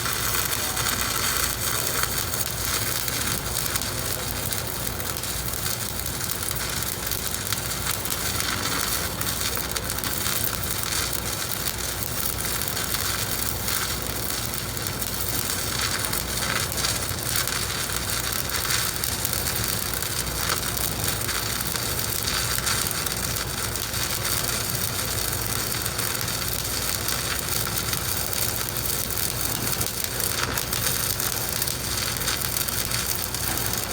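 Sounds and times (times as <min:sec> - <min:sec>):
welding arc crackling: 0:00.0 - 0:33.9.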